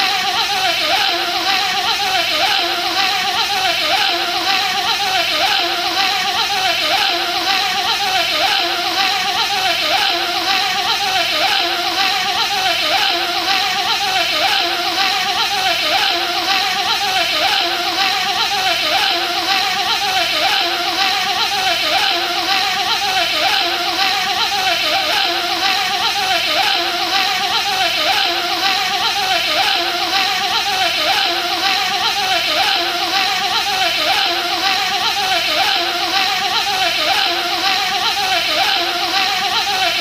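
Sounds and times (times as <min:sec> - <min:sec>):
man imitating buzzing bee: 0:00.0 - 0:40.0.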